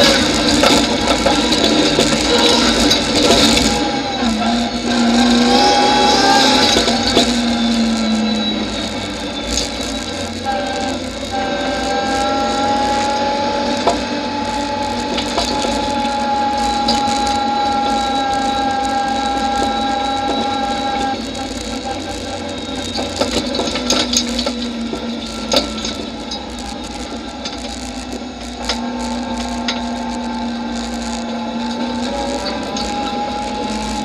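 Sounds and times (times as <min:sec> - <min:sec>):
rally car engine: 0:00.0 - 0:34.0.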